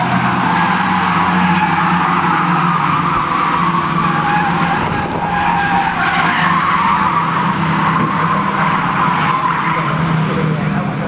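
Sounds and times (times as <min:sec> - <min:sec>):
racing car engines: 0:00.0 - 0:11.0
tyres skidding: 0:00.0 - 0:11.0.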